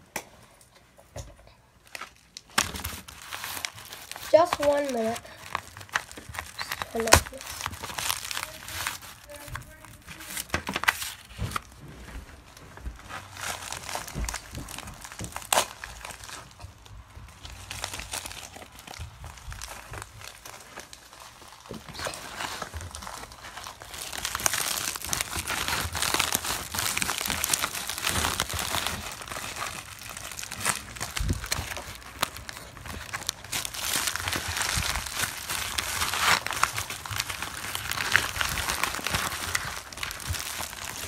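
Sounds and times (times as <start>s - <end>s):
plastic wrapping crinkling and tearing: 1.8s - 41.0s.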